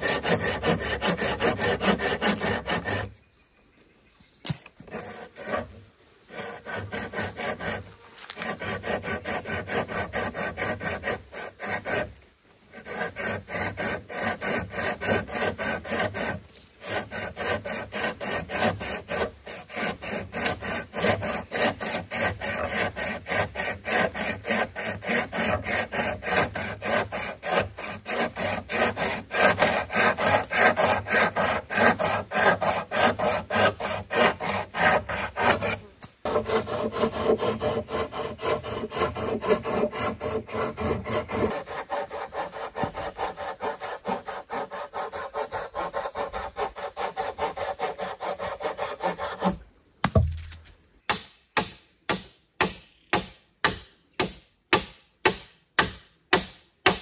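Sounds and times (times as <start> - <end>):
hand saw cutting wood: 0.0 - 3.2, 4.5 - 49.6, 51.6 - 57.0.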